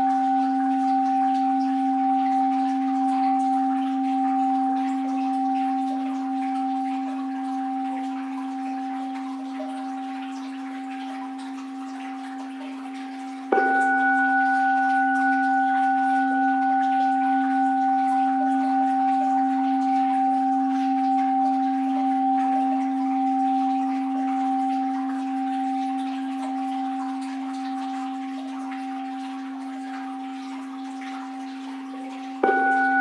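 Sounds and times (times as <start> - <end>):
bowl bell ringing: 0.0 - 33.0.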